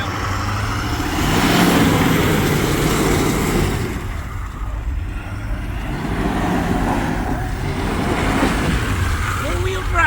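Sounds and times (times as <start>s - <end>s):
truck engine under load: 0.0s - 10.0s.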